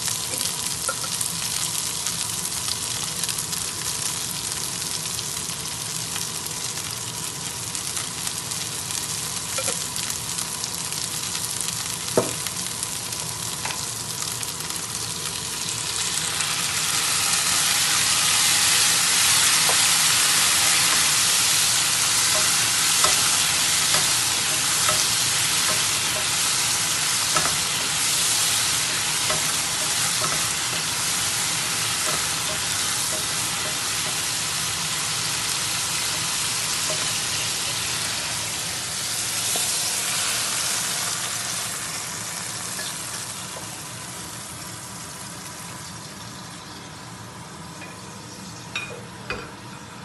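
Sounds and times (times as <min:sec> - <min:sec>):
tofu sizzling in a frying pan: 0:00.0 - 0:47.2.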